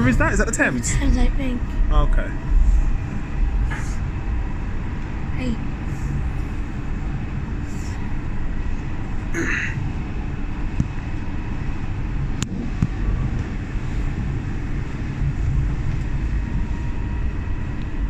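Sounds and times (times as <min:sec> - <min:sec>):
faint steady whine: 0:00.0 - 0:18.0
train wheels rumbling on track: 0:00.0 - 0:18.0.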